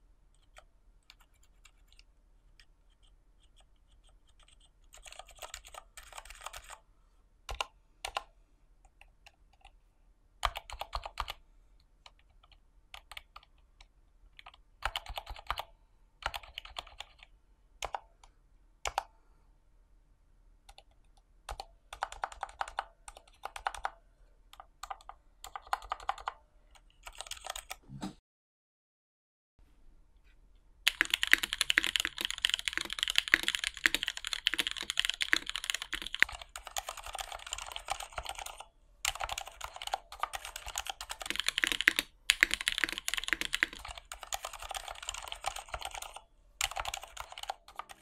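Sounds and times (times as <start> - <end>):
quiet keyboard keystrokes: 0.4 - 6.8, 7.5 - 9.8, 10.4 - 11.4, 12.0 - 19.1, 20.7 - 27.8, 30.9 - 48.0.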